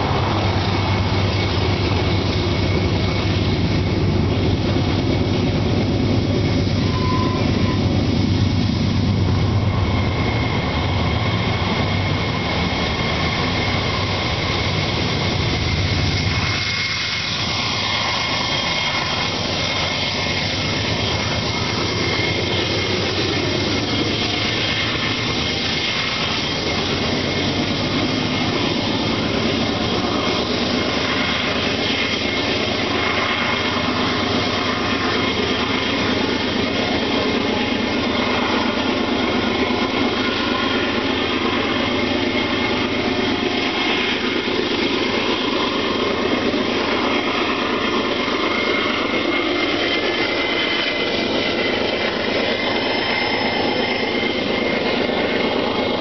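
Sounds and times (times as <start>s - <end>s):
locomotive engine and wheels droning: 0.0s - 56.0s
thin high whine: 0.0s - 56.0s.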